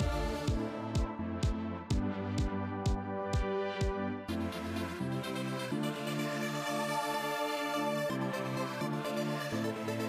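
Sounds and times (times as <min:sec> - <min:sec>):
electronic synthesizer music: 0:00.0 - 0:10.0.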